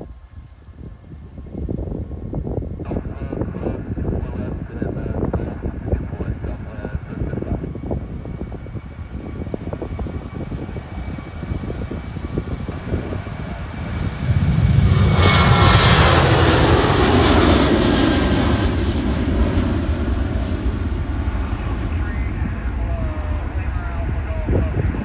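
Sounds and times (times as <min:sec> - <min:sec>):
jet airliner taking off: 0:00.0 - 0:25.0
wind rumbling on microphone: 0:00.0 - 0:25.0.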